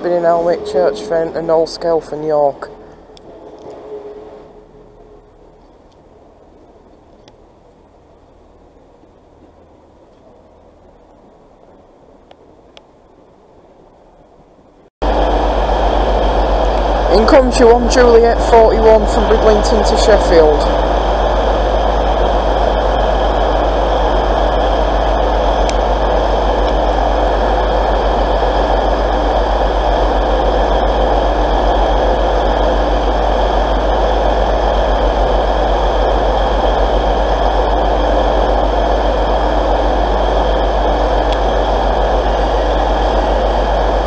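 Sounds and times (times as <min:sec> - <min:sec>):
diesel train engines idling: 0:00.0 - 0:12.6, 0:14.4 - 0:44.0.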